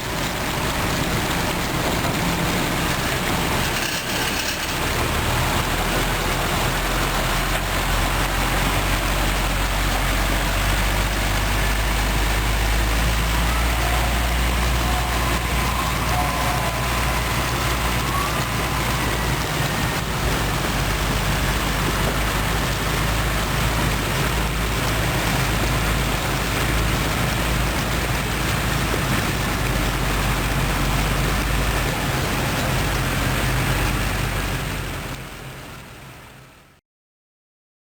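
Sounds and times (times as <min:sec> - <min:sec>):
diesel truck engine running: 0:00.0 - 0:36.2
constant rushing noise: 0:00.0 - 0:36.7.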